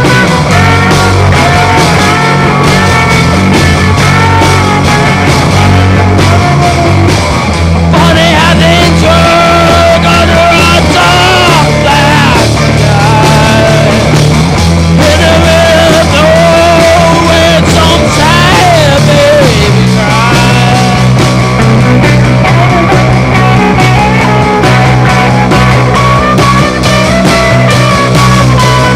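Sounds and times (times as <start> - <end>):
loud rock music: 0.0 - 28.9.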